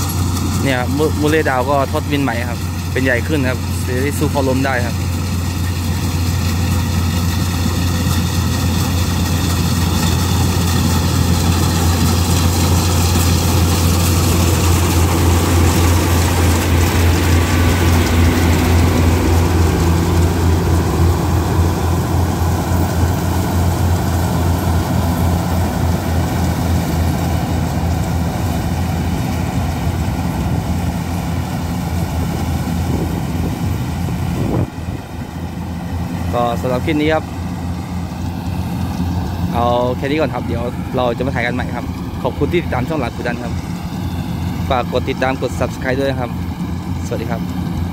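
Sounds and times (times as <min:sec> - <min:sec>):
diesel engine drone: 0:00.0 - 0:47.9
harvester machinery whirring: 0:00.0 - 0:47.9.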